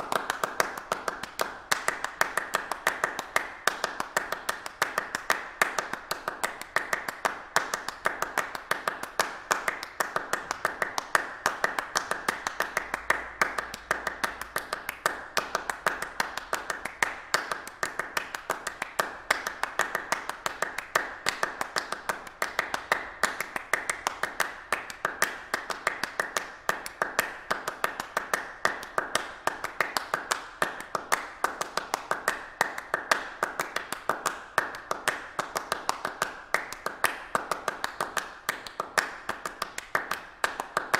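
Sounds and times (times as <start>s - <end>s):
hands clapping: 0.0s - 40.9s.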